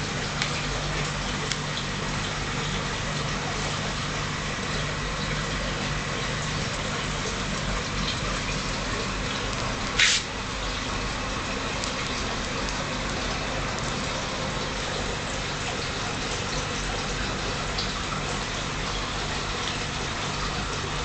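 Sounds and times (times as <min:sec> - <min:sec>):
circulating water rushing: 0:00.0 - 0:21.0
low motor hum: 0:00.0 - 0:21.0.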